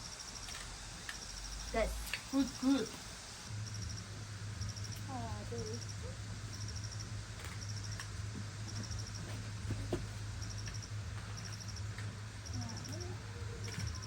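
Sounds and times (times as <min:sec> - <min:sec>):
insect chirping in trills: 0:00.0 - 0:09.4, 0:10.4 - 0:14.0
steady low hum: 0:00.0 - 0:14.0.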